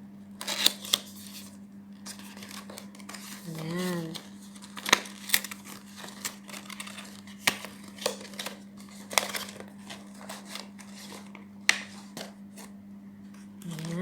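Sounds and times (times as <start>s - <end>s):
faint steady hum: 0.0s - 14.0s
packaging crinkling and rustling: 0.4s - 12.8s.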